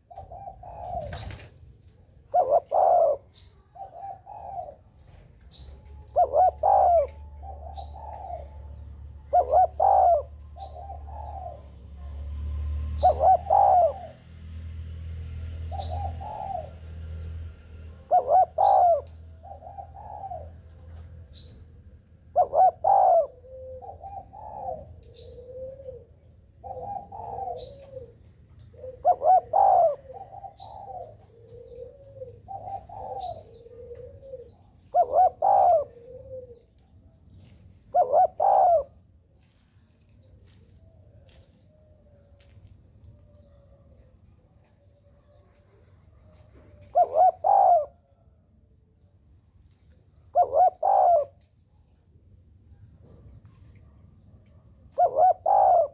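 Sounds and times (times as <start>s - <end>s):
dove cooing: 0.0s - 14.3s, 15.5s - 39.6s, 43.3s - 48.3s, 50.0s - 51.6s, 53.0s - 55.9s.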